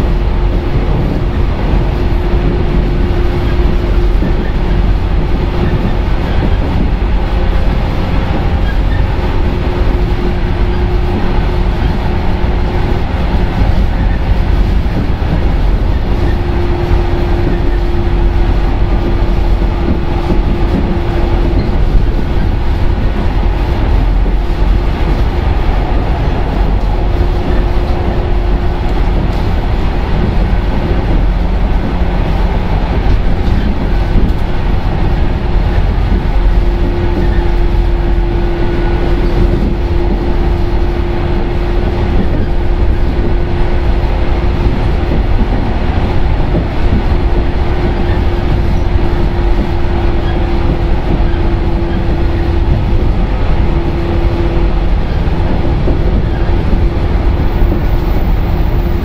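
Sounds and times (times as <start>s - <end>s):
train wheels and motors rumbling: 0.0s - 59.0s.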